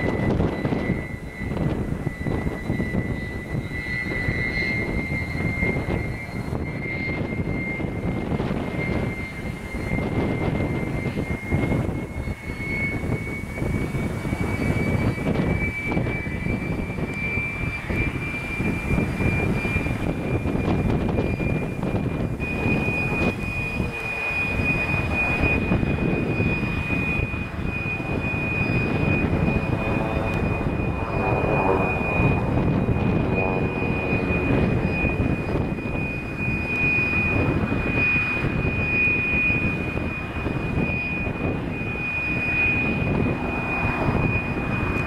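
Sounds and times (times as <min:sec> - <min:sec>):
propeller planes droning overhead: 0:00.0 - 0:45.0.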